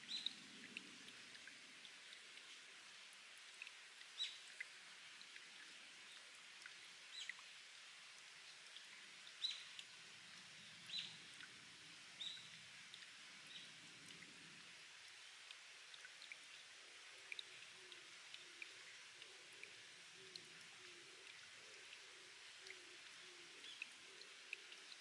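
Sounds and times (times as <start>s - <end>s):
spring water trickling and dripping: 0.0s - 25.0s.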